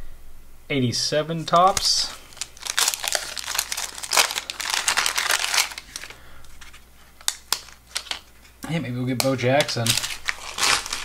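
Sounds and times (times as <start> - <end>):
wax paper wrapper crinkling: 1.4 - 11.0.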